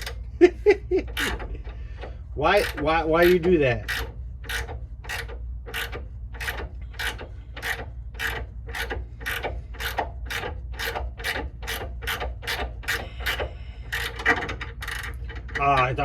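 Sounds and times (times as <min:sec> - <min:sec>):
ratchet wrench clicking: 0:02.5 - 0:15.9.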